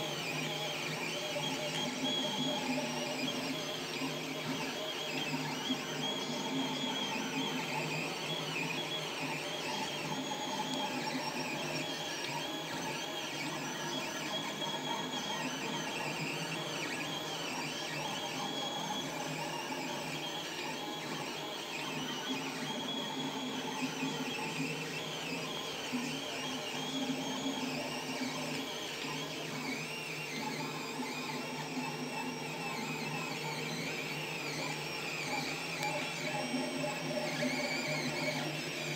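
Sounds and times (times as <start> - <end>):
steady printer hum: 0.0 - 38.9
stepper motors whining: 0.0 - 38.9.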